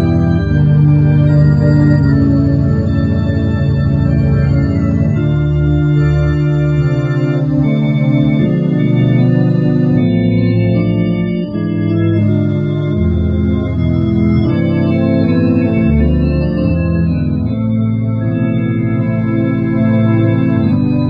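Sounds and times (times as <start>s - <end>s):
electronic organ chords: 0.0s - 21.0s
low bass notes: 0.0s - 21.0s.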